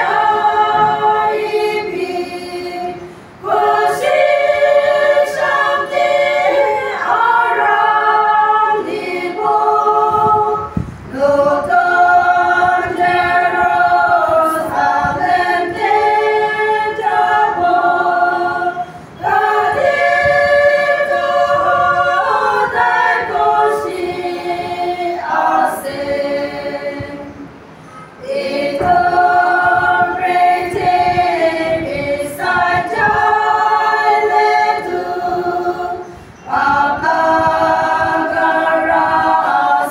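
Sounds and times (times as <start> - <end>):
women's choir singing unaccompanied: 0.0 - 39.9.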